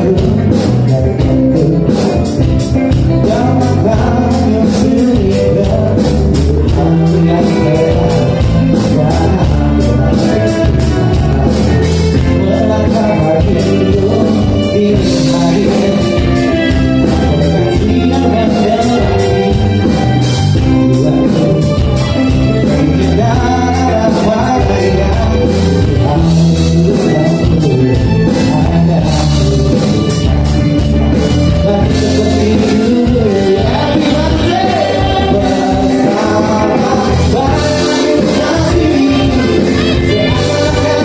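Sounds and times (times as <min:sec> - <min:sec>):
live band with singer: 0:00.0 - 0:41.0.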